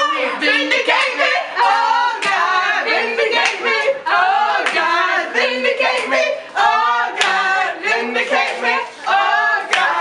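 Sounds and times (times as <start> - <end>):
young voices singing together: 0.0 - 10.0.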